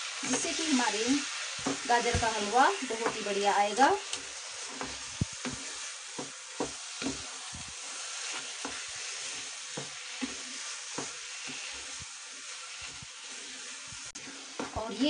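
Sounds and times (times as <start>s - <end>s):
carrots sizzling in a pan: 0.0s - 15.0s
spatula scraping a pan: 0.0s - 15.0s.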